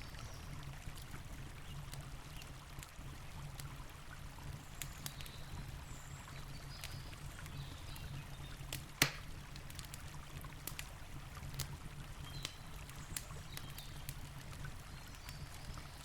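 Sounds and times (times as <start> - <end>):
campfire wood crackling: 0.0 - 16.0.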